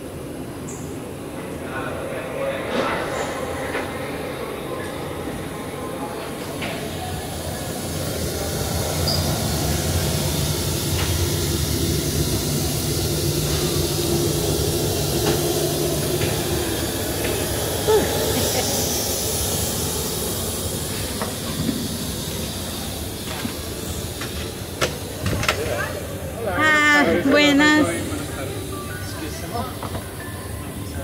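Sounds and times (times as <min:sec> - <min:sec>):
low hum: 0:01.4 - 0:26.3
rushing hiss of air: 0:02.6 - 0:31.0.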